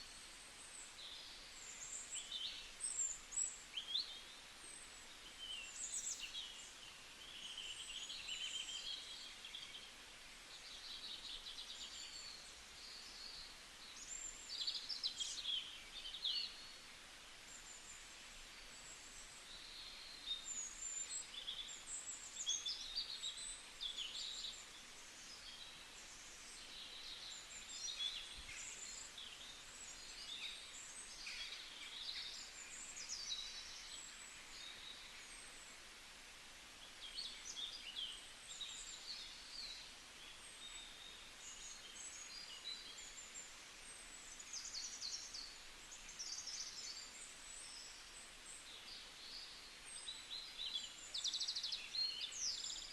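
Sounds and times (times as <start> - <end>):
faint background hiss: 0.0 - 52.9.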